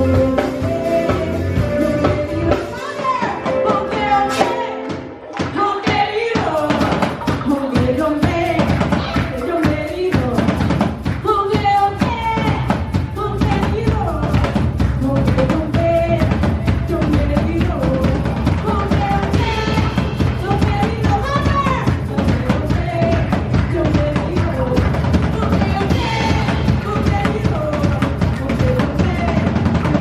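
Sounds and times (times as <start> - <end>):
drums: 0.0 - 30.0
live band music: 0.0 - 30.0
woman singing: 0.0 - 30.0.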